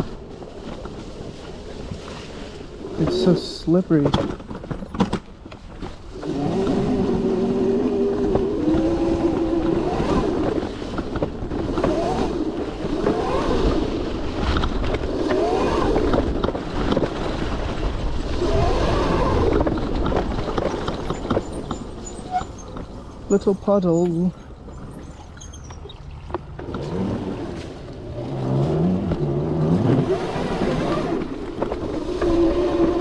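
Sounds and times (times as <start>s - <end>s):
tyre and wind noise: 0.0s - 33.0s.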